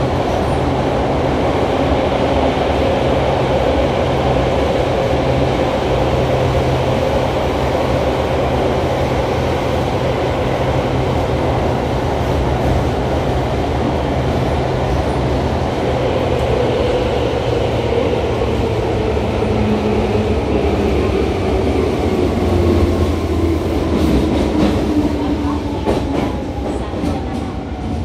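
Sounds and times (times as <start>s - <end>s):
train wheel and track rumble: 0.0s - 28.0s.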